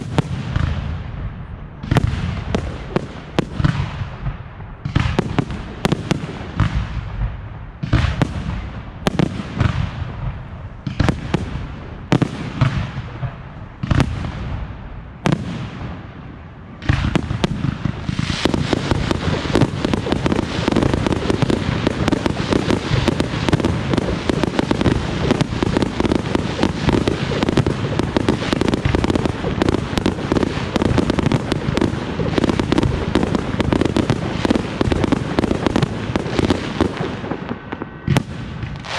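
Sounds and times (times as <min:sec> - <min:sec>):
rapid firework popping and crackling: 0:00.0 - 0:16.1, 0:16.8 - 0:38.9.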